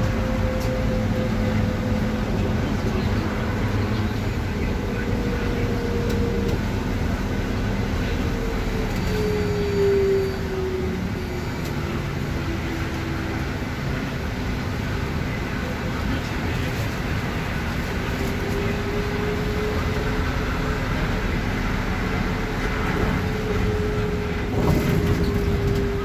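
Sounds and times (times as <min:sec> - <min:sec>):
trolleybus running rumble: 0:00.0 - 0:26.0.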